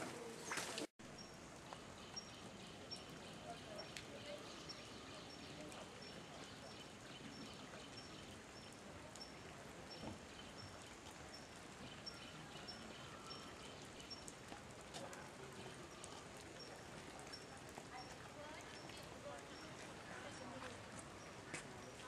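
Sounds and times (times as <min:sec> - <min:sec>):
light rain hiss: 0:00.0 - 0:22.0
small drip ticks: 0:01.5 - 0:22.0.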